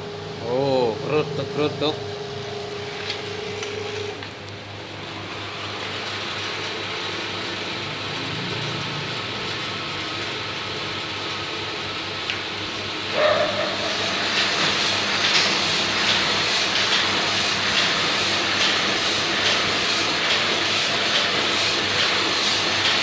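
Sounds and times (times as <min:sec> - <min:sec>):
printer mechanical whir: 0:00.0 - 0:23.0.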